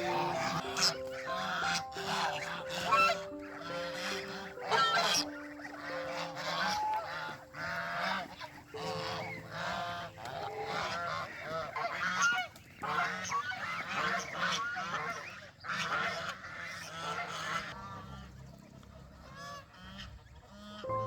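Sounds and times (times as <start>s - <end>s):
poultry flock calling: 0.0s - 21.0s.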